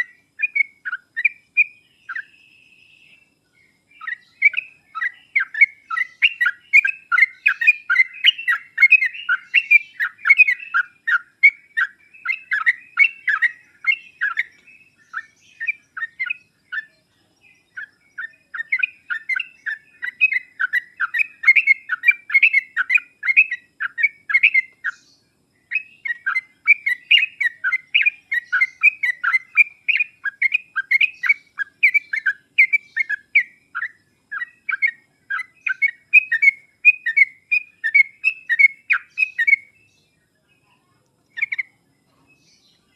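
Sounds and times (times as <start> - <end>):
bird chattering song: 0.0 - 42.9.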